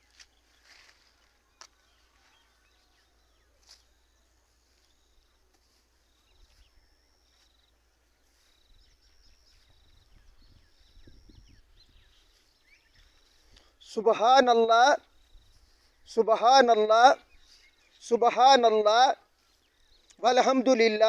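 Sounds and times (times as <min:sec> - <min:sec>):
faint birdsong: 0:00.0 - 0:21.0.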